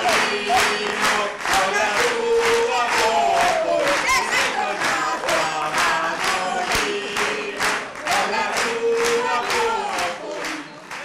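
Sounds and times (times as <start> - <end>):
group of voices singing: 0.0 - 11.0
rhythmic hand clapping: 0.0 - 11.0.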